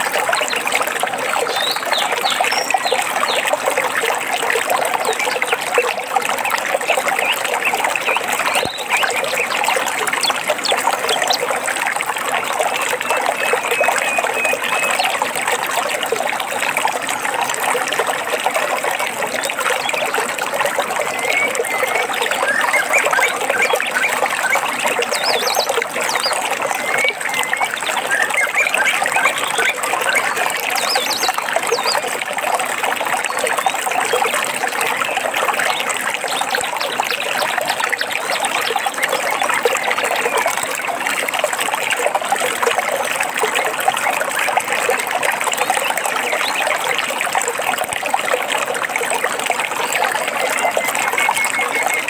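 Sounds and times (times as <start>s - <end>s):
stream trickling over rocks: 0.0s - 52.0s.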